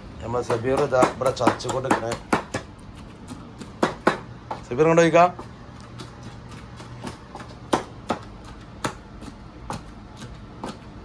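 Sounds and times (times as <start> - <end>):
wooden pestle pounding in mortar: 0.2 - 11.0.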